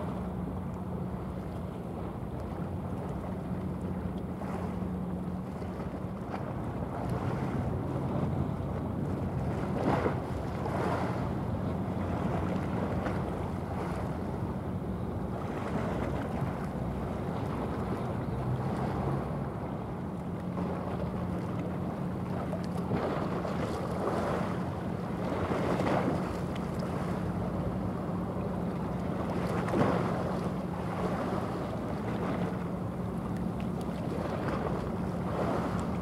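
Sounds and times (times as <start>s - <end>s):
ship diesel engine drone: 0.0s - 36.0s.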